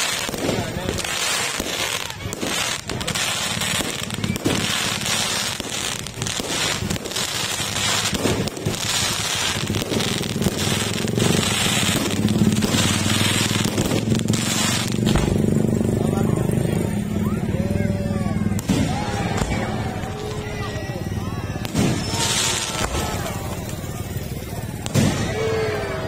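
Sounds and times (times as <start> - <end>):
fireworks bursting: 0.0 - 26.0
fireworks crackling: 0.0 - 26.0.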